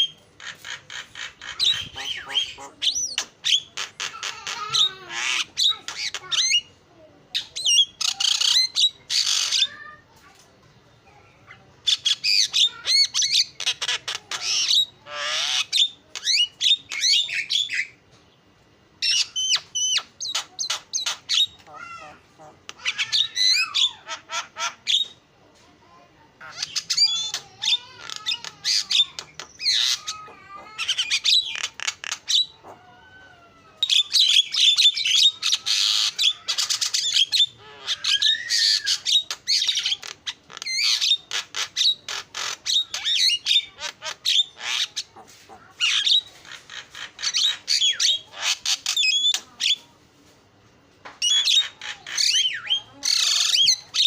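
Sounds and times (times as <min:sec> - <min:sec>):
myna bird singing: 0:00.0 - 0:10.0, 0:10.8 - 0:25.2, 0:26.4 - 0:49.9, 0:51.1 - 0:54.0.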